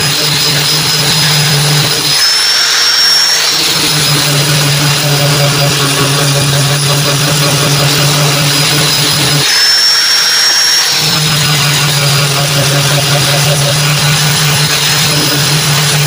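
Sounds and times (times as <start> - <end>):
machine running loudly: 0.0 - 16.0.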